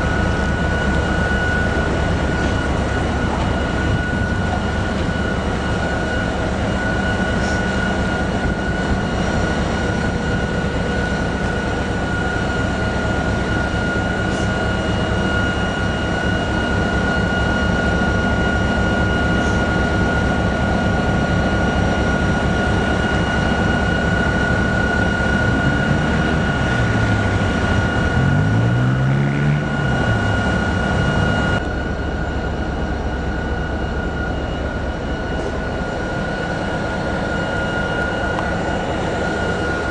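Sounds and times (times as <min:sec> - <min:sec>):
locomotive engine running: 0:00.0 - 0:39.9.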